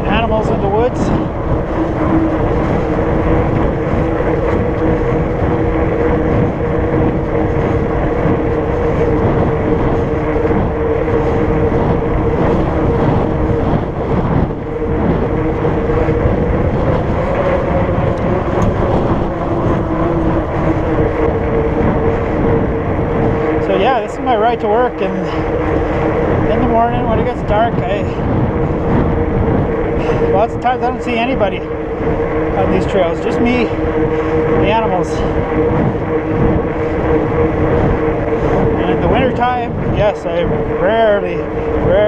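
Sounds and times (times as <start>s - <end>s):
bike tires humming on pavement: 0.0s - 42.0s
wind rushing over microphone: 0.0s - 42.0s.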